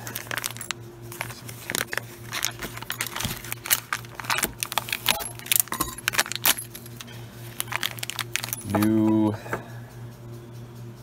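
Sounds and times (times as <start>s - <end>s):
plastic bags crinkling: 0.0s - 9.2s
small metal parts clinking: 0.0s - 9.3s
steady low hum: 0.0s - 11.0s.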